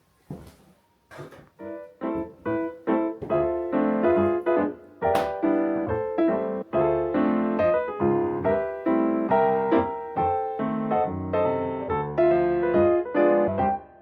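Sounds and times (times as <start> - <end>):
piano melody: 1.6 - 14.0.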